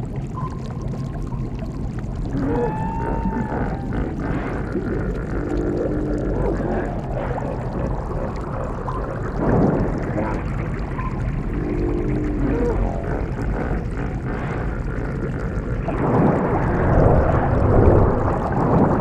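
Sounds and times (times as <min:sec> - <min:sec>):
underwater bubbling rumble: 0:00.0 - 0:19.0
water surge: 0:00.0 - 0:19.0.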